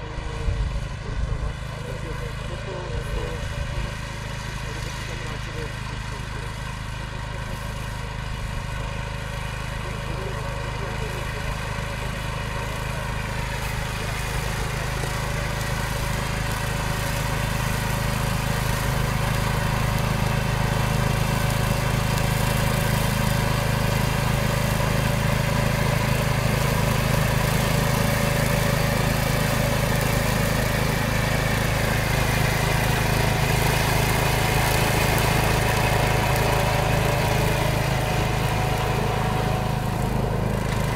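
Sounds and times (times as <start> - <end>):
tractor mower cutting grass: 0.0 - 40.9.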